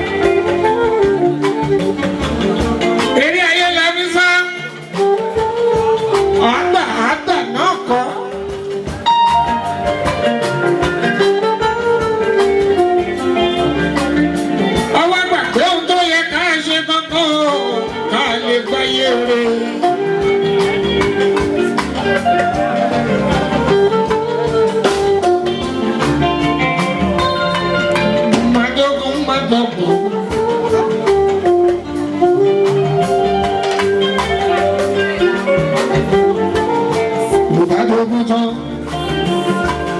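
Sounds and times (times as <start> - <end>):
melodic instrument lines: 0.0 - 16.3, 17.4 - 39.9
dense percussion: 0.0 - 39.9
person singing: 0.0 - 39.9.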